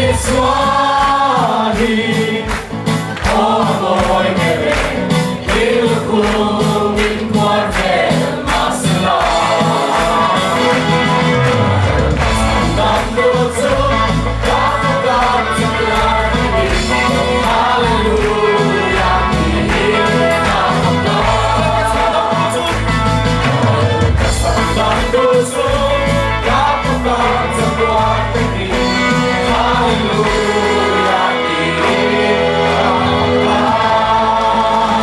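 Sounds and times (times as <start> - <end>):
deep bass line: 0.0 - 7.6, 8.2 - 35.0
band accompaniment with beat: 0.0 - 35.0
group singing gospel: 0.0 - 35.0.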